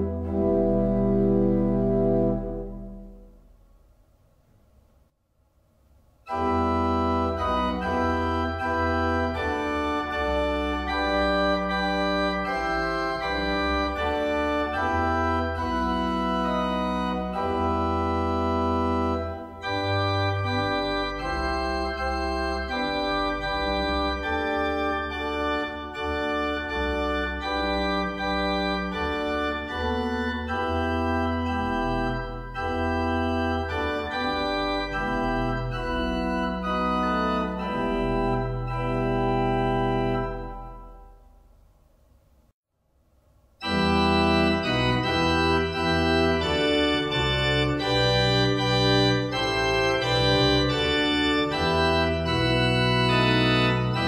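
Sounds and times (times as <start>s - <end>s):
pipe organ playing sustained chords: 0.0s - 3.4s, 6.2s - 41.3s, 43.6s - 54.0s.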